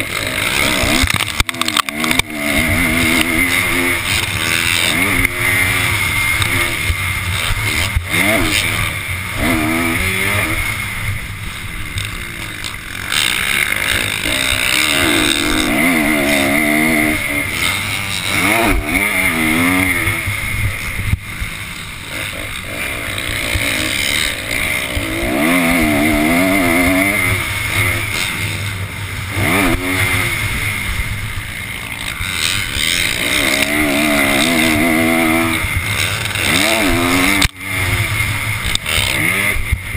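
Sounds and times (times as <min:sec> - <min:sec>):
dirt bike engine revving: 0:00.0 - 0:39.9
steady rushing noise: 0:00.0 - 0:39.9.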